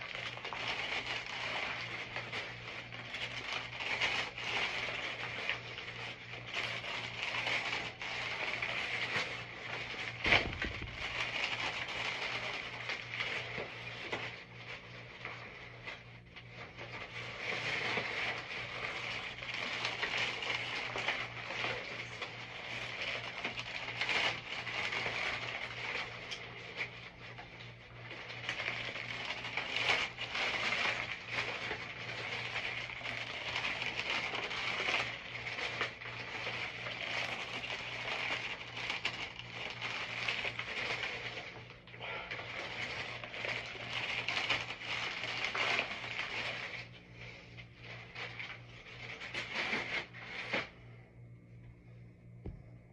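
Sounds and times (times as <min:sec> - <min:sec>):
plastic wrap crinkling: 0:00.0 - 0:51.0
steady low hum: 0:00.0 - 0:52.9.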